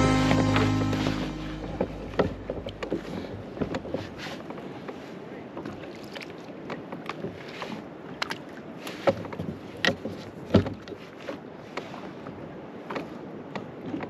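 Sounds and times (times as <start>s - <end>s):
background noise wash: 0.0s - 14.0s.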